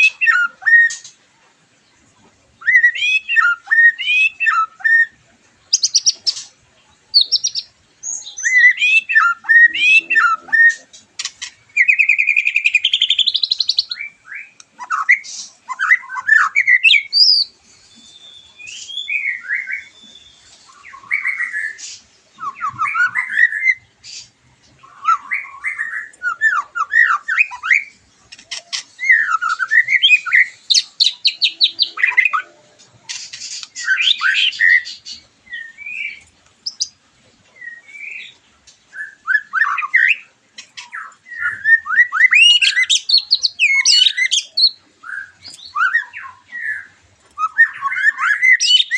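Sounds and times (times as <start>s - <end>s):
bird singing whistled phrases: 0.0s - 1.1s, 2.6s - 5.2s, 7.2s - 10.9s, 11.7s - 23.8s, 24.9s - 27.9s, 28.7s - 32.7s, 33.5s - 37.0s, 39.0s - 48.9s.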